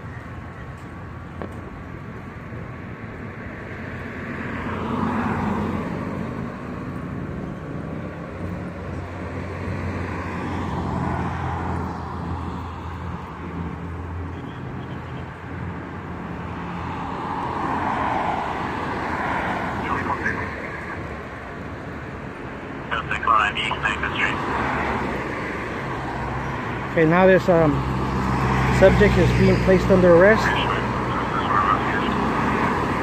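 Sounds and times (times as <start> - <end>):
cars passing by: 0.0 - 33.0.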